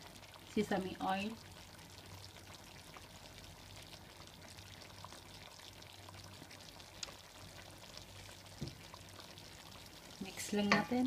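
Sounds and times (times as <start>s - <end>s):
sauce bubbling in a pan: 0.0s - 11.0s.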